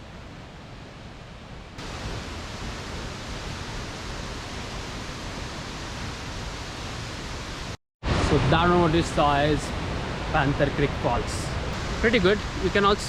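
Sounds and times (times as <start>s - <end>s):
waterfall roaring: 1.8s - 13.0s.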